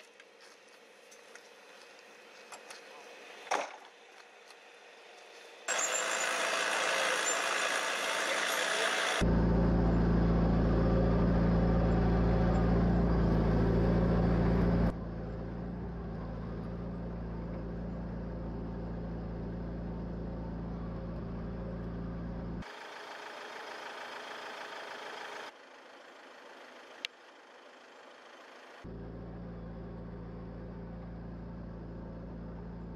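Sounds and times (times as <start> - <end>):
tracked vehicle engine running: 0.0 - 32.9.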